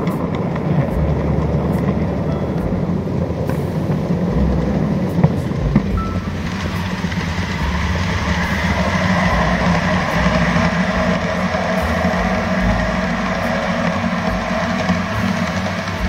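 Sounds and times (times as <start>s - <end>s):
model train motor hum: 0.0s - 16.0s
small wheels rumbling on rails: 0.0s - 16.0s.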